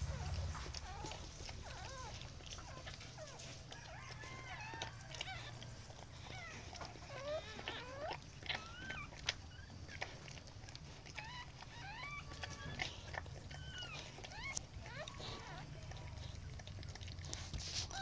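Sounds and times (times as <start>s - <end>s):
faint low rumble: 0.0s - 18.0s
puppies squeaking and whimpering: 0.0s - 18.0s.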